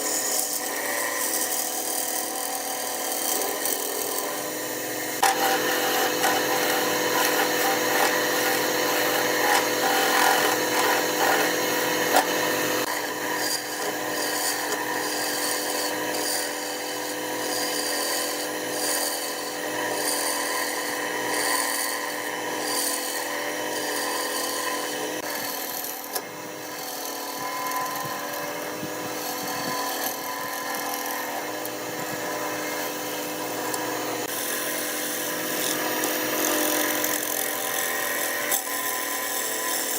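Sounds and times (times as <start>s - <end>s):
tool scraping spinning wood: 0.0s - 39.9s
wood lathe running: 0.0s - 39.9s.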